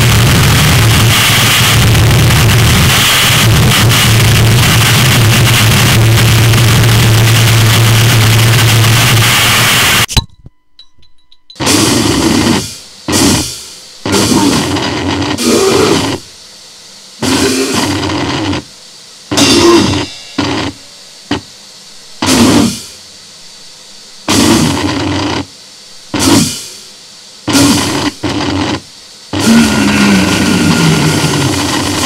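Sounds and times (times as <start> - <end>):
harsh distorted noise blasts: 0.0 - 10.2, 11.6 - 16.4, 17.1 - 23.0, 24.2 - 26.8, 27.4 - 32.0.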